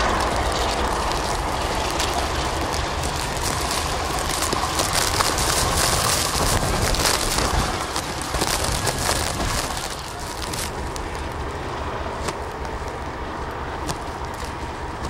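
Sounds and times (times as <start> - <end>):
sharp crackling clicks: 0.0 - 15.0
wind and snow rushing on microphone: 0.0 - 15.0.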